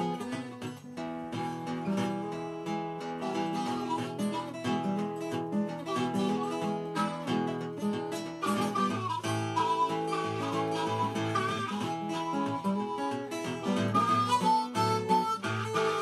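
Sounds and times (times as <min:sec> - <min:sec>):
boogie on acoustic guitar: 0:00.0 - 0:16.0.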